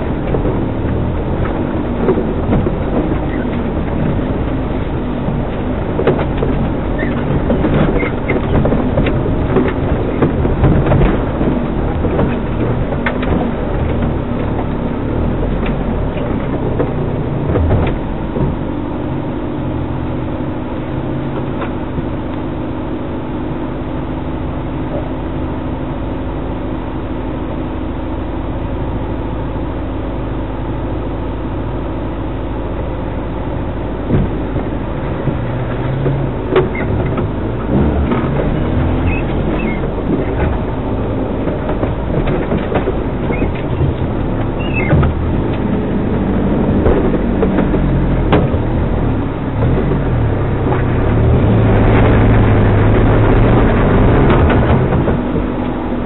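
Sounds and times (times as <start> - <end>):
body knocking and rattling: 0.0 - 27.2, 32.6 - 56.0
engine running at crawling speed: 0.0 - 56.0.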